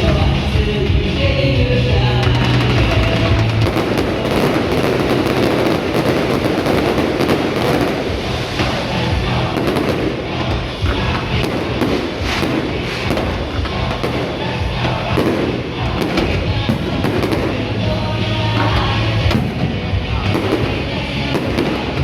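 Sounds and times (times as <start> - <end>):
fireworks bursting and crackling: 0.0 - 22.0
music playing: 0.0 - 22.0.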